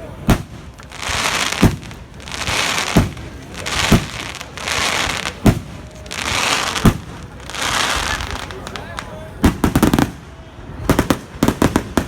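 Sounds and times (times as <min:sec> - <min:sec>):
fireworks crackling and hissing: 0:00.0 - 0:12.0
firework shells booming: 0:00.2 - 0:08.7, 0:09.4 - 0:12.0.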